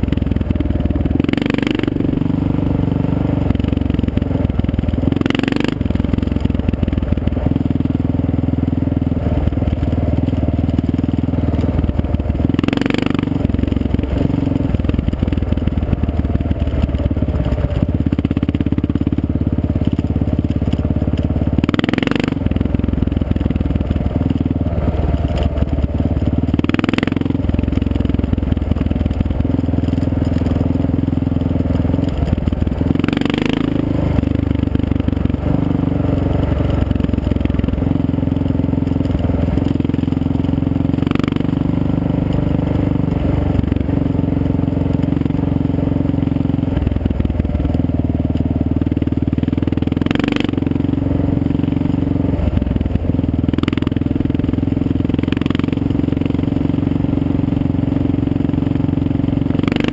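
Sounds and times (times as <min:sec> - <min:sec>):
tyres on gravel: 0:00.0 - 0:55.2
motorcycle engine running: 0:00.0 - 0:59.9.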